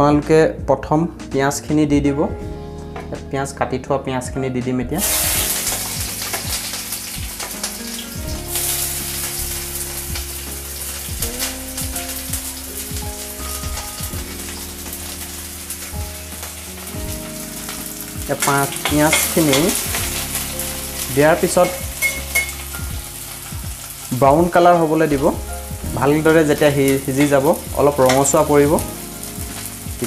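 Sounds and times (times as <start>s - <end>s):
onions sizzling in hot oil: 5.0s - 30.0s.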